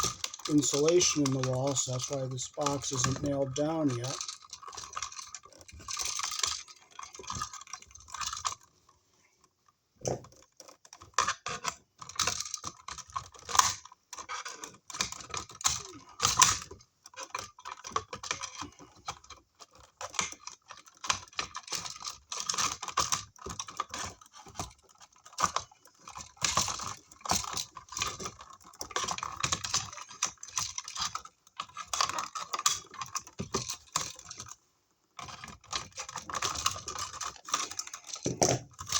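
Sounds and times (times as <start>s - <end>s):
cable and hand tools clicking: 0.0s - 8.7s, 10.0s - 34.6s, 35.2s - 38.9s.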